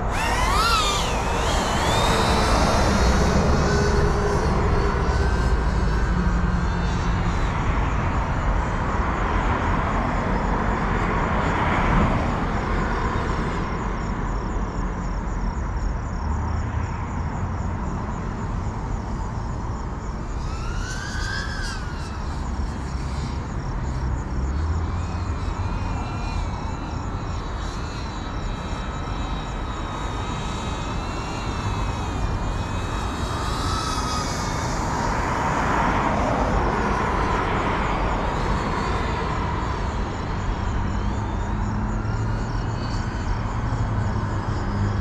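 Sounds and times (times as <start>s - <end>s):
drone motors whining: 0.0s - 11.0s, 18.2s - 45.0s.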